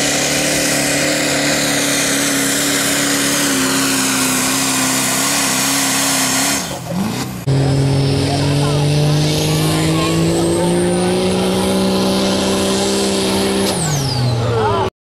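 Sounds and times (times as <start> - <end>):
diesel engine at high revs: 0.0 - 14.9
loud engine: 0.0 - 14.9.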